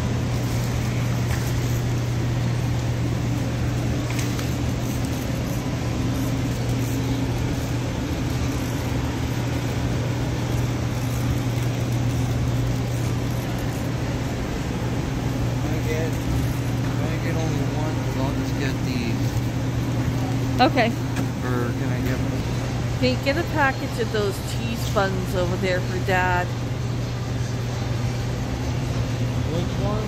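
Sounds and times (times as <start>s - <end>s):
building machinery hum: 0.0s - 30.0s.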